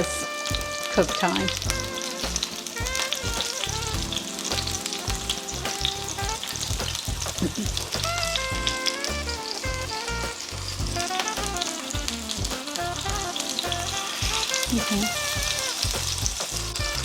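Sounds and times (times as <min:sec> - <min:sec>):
background music: 0:00.0 - 0:17.0
oil sizzling and crackling: 0:00.0 - 0:17.0.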